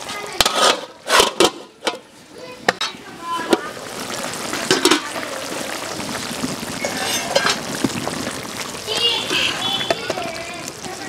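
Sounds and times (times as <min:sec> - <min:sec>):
curry bubbling and sizzling: 0:00.0 - 0:11.0.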